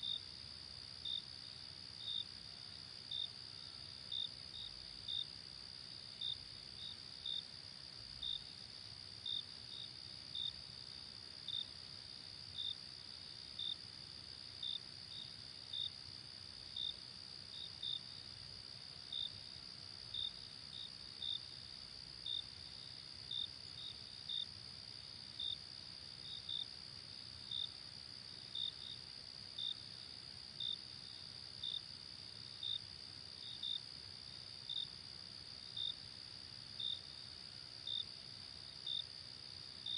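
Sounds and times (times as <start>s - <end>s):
cricket chirps: 0.0s - 39.9s.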